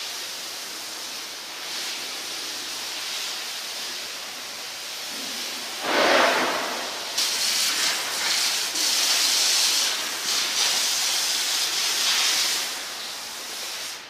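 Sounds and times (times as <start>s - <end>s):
steam locomotive venting steam: 0.0s - 14.0s.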